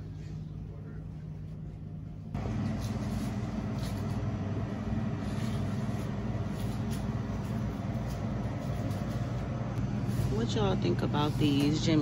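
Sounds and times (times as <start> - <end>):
freezer cases humming: 2.4 - 12.0.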